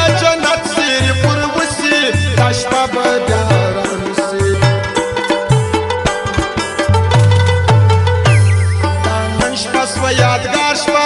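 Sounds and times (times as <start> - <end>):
hand drum beat: 0.0 - 11.0
sustained melodic instruments: 0.0 - 11.0.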